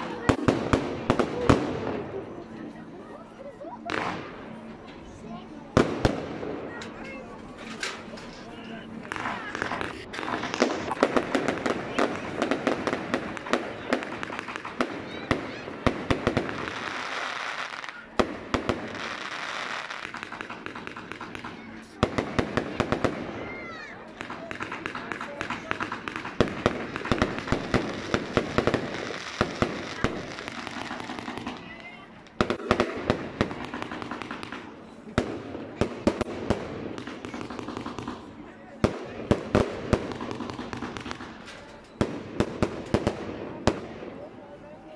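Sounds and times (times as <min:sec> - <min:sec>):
firework crackling: 0:00.0 - 0:03.2, 0:03.8 - 0:04.8, 0:05.7 - 0:44.4
firework bangs: 0:03.9 - 0:04.7, 0:05.8 - 0:06.8, 0:09.0 - 0:23.5, 0:24.2 - 0:44.2.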